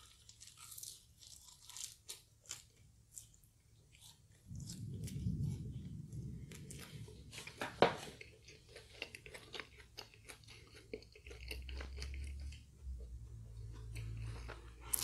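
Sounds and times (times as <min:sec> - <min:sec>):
chewing crispy fried food: 0:00.0 - 0:15.0.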